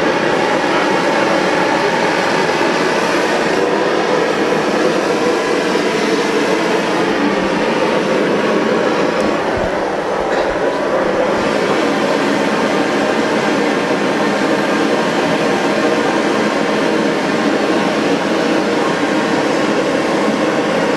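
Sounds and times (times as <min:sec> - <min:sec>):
gas burner flame rushing: 0:00.0 - 0:20.9.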